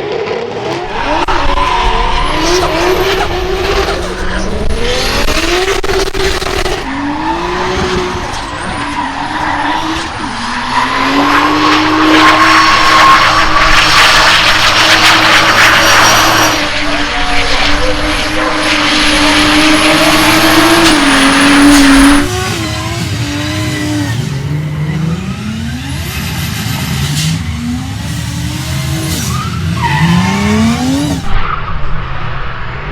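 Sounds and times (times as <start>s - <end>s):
car engine at high revs: 0.0s - 32.9s
loud tyre noise: 0.0s - 32.9s.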